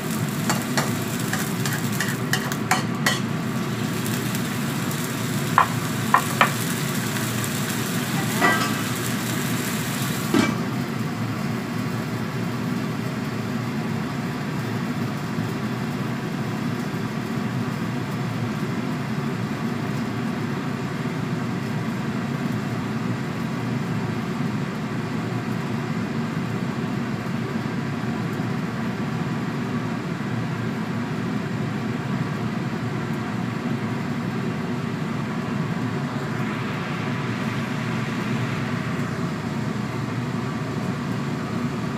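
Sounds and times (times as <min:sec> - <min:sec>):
vegetable sizzling in a wok: 0:00.0 - 0:41.9.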